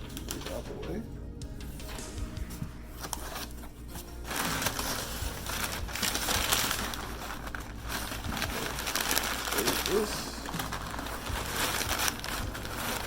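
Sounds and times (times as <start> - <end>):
packing material crinkling: 1.9 - 13.0.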